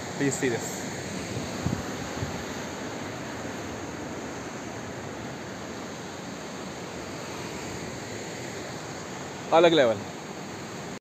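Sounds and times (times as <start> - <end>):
sea surf washing onto rocks: 0.0 - 11.0.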